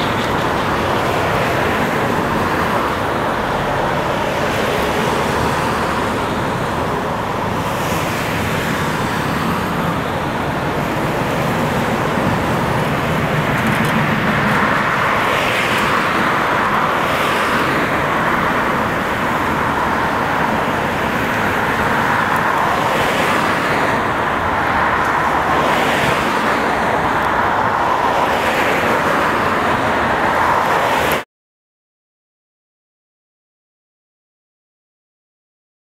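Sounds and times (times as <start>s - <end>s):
cars passing: 0.0s - 31.2s.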